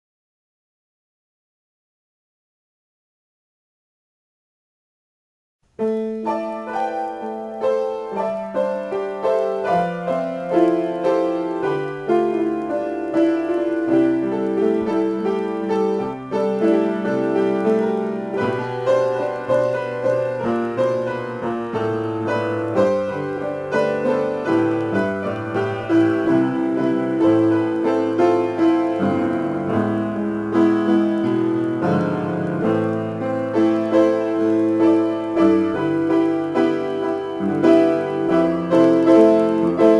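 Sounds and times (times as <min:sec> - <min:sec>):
solo piano improvisation: 0:05.6 - 0:39.9.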